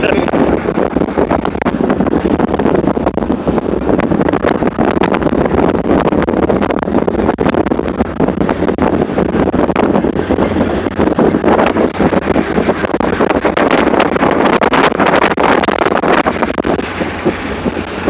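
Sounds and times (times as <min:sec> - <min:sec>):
road and vehicle noise: 0:00.0 - 0:18.0
wind buffeting microphone: 0:00.0 - 0:18.0.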